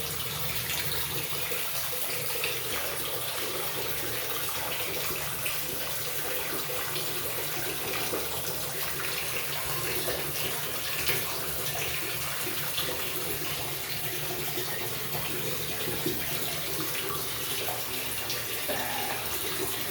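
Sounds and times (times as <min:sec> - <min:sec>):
water running into shower pan: 0:00.0 - 0:19.9.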